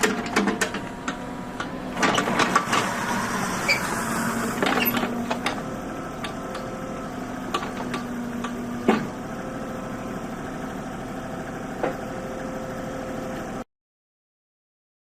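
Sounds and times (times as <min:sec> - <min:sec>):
excavator diesel engine idling: 0:00.0 - 0:13.6.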